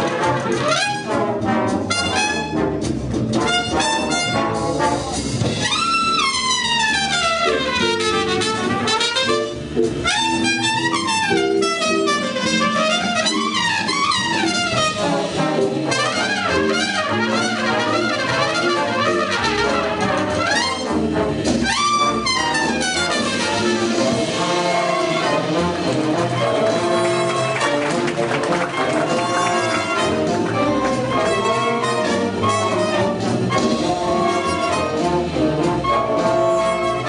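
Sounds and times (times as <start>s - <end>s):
brass horn runs and glides: 0.0s - 2.8s, 3.4s - 37.0s
jazz band playing: 0.0s - 37.0s.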